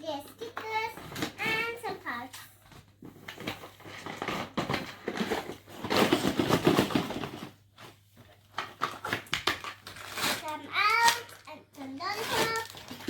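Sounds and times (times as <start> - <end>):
packaging crackling and rustling: 0.9 - 13.0.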